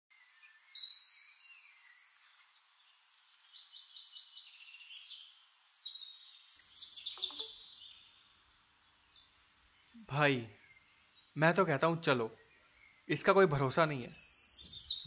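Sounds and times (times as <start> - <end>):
birds chirping and calling: 0.2 - 15.0.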